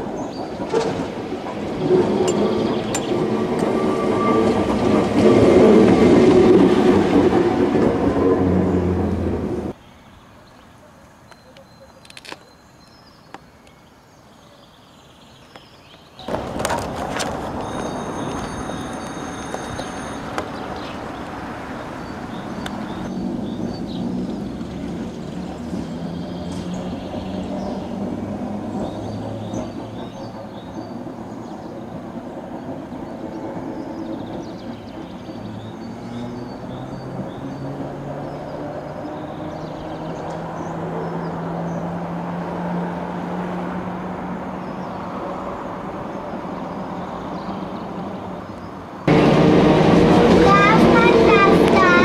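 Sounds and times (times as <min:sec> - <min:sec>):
birds chirping: 0:00.0 - 0:05.4, 0:08.0 - 0:42.7, 0:44.4 - 0:49.3, 0:50.0 - 0:52.0
tram humming on track: 0:00.0 - 0:09.8, 0:16.2 - 0:52.0.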